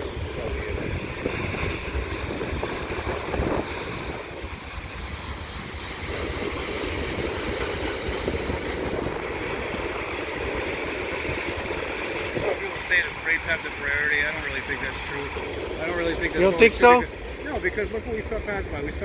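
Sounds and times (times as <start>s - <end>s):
freight train rumbling past: 0.0s - 19.0s
wind buffeting microphone: 0.0s - 19.0s.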